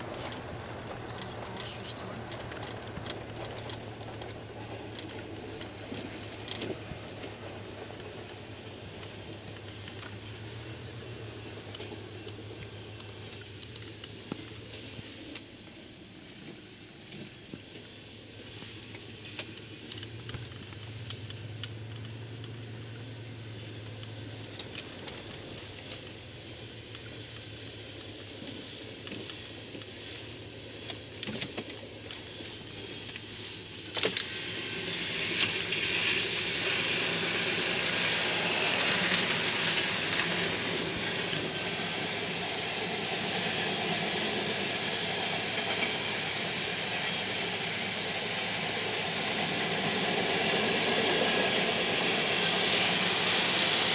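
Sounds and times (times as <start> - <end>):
steel train wheels rolling on rail: 0.0 - 53.9.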